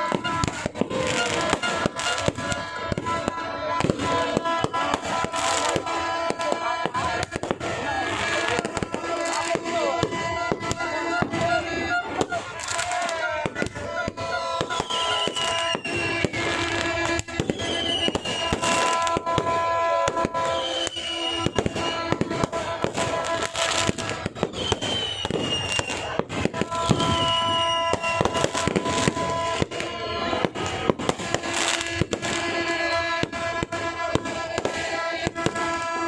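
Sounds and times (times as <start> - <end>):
fireworks bursting and crackling: 0.0 - 36.0.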